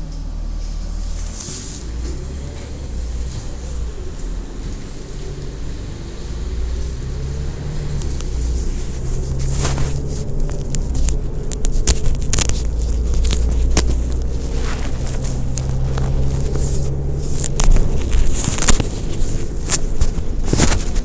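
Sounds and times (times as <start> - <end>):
bus engine humming: 0.0 - 21.0
clicks and rattles: 0.0 - 21.0.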